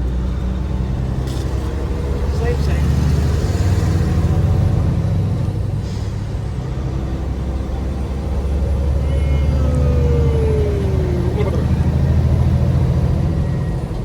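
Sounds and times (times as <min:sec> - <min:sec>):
car road noise rumble: 0:00.0 - 0:14.0.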